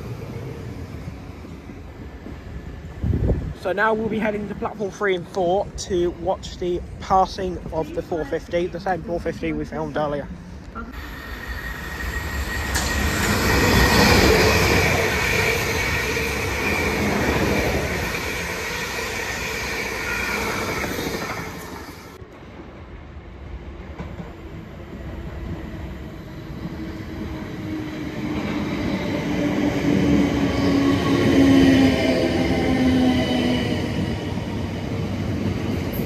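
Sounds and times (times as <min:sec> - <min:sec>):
electric train pulling into platform: 0:00.0 - 0:05.0, 0:10.9 - 0:36.0
electric train passing: 0:00.0 - 0:10.0, 0:10.9 - 0:36.0
low train whine: 0:00.0 - 0:36.0.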